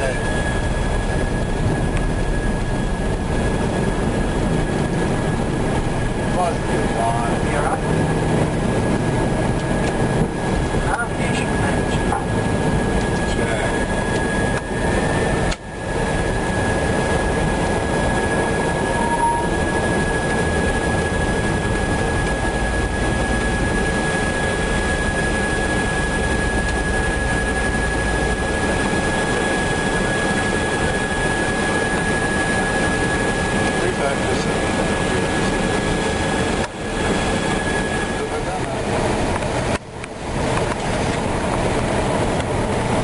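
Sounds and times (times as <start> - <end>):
thin high whine: 0.0 - 41.4
aircraft cockpit roar: 0.0 - 43.0.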